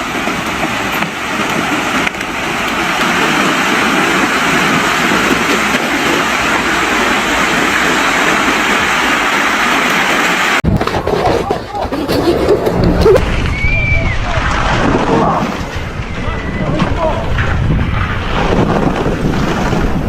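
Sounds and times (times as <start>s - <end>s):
loud steady rushing noise: 0.0s - 20.0s.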